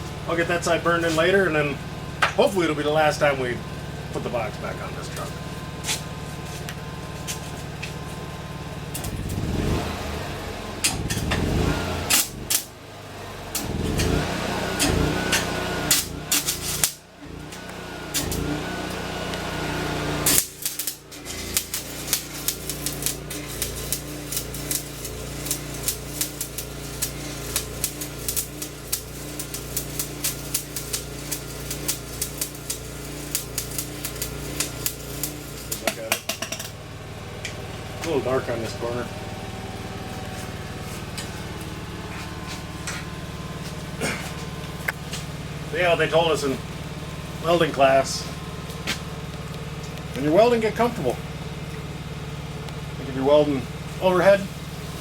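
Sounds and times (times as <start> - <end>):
small engine idling: 0.0 - 55.0
steady low hum: 0.0 - 55.0
welding arc crackling: 0.0 - 55.0.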